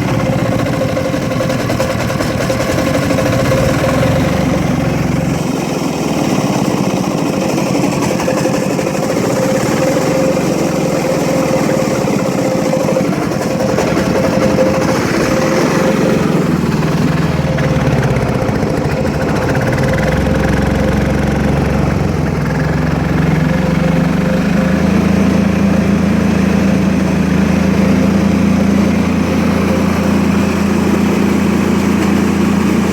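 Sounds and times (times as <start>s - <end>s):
diesel generator engine running: 0.0s - 32.9s.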